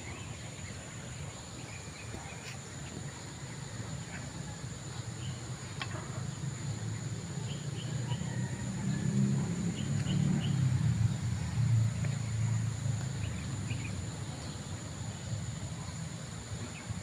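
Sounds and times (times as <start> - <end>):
insect drone: 0.0 - 17.0.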